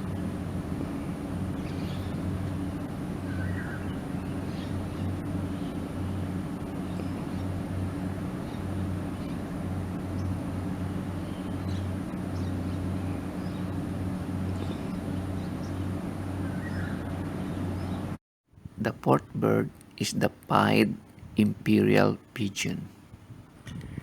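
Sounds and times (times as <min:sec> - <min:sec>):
urban background hum and rumble: 0:00.0 - 0:24.0.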